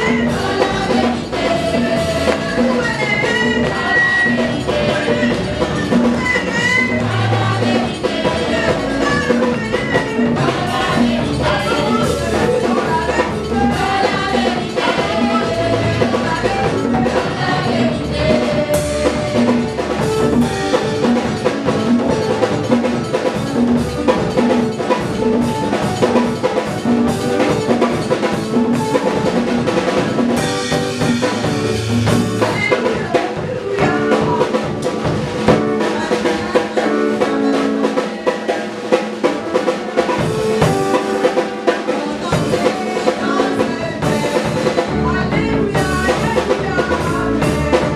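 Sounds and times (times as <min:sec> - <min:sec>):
women singing: 0:00.0 - 0:21.7, 0:29.8 - 0:47.9
drum kit playing busy beat: 0:00.0 - 0:47.9.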